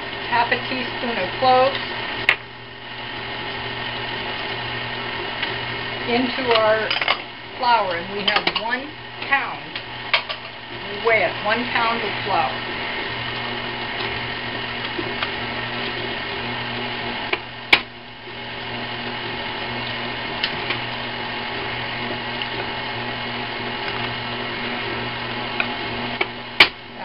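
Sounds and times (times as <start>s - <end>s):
electric stand mixer running: 0.0s - 27.0s.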